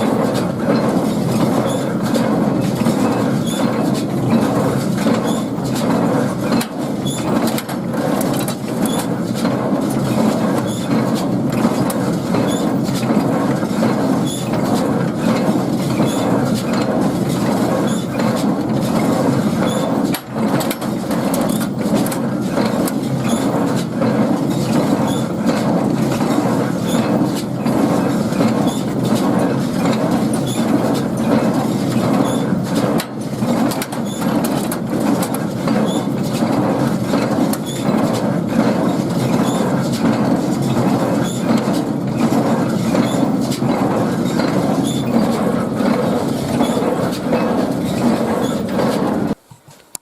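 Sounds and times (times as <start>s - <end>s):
baler clattering and knocking: 0.0s - 49.4s
tractor engine: 0.0s - 49.9s.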